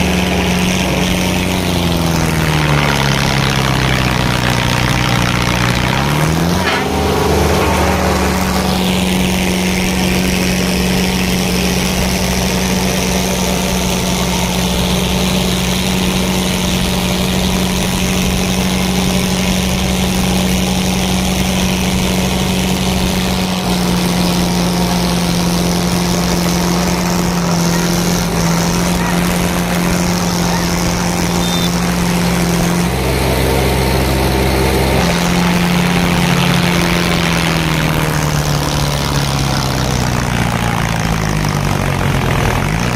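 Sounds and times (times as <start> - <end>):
tractor diesel engines running: 0.0 - 42.9.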